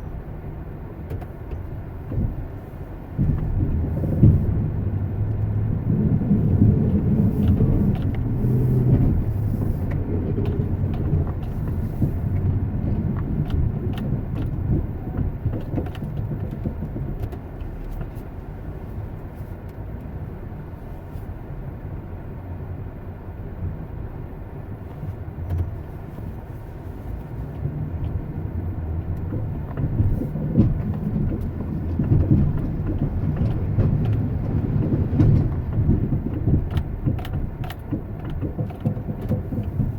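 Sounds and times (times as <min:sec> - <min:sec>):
vehicle engine low rumble: 0:00.0 - 0:39.9.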